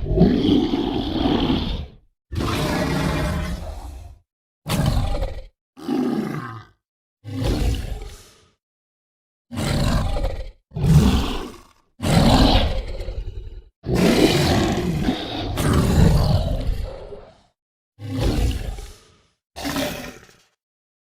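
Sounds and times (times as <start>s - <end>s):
dinosaur roars: 0.0s - 8.5s, 9.5s - 20.6s.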